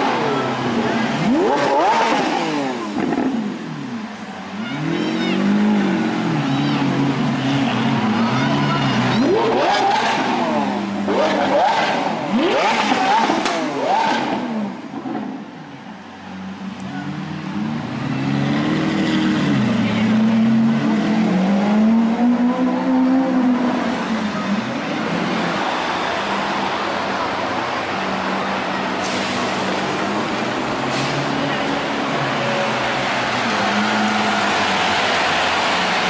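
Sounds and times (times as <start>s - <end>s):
car engine accelerating: 0.0s - 4.2s, 4.8s - 15.4s, 16.7s - 36.0s
car engine revving: 0.0s - 15.3s, 17.0s - 36.0s.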